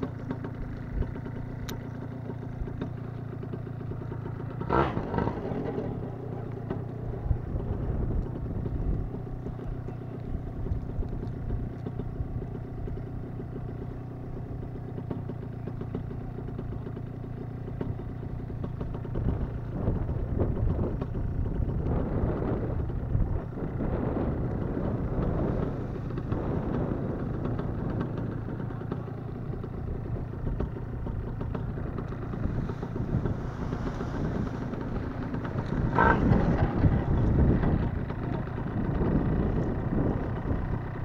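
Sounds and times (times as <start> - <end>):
paramotor engine idling: 0.0 - 41.0.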